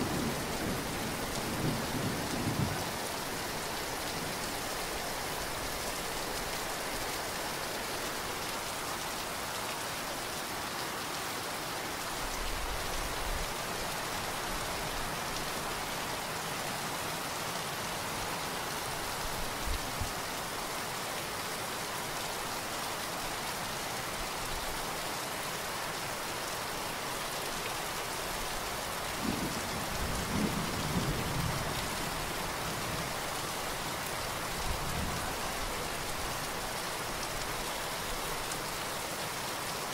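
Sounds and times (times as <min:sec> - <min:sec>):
heavy rain on ground and roof: 0:00.0 - 0:39.9.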